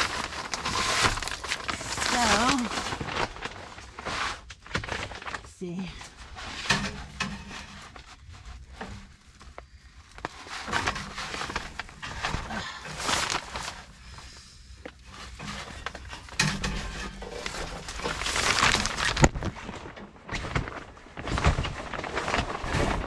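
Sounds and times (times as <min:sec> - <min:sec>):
rustling and scraping of handling: 0:00.0 - 0:23.0.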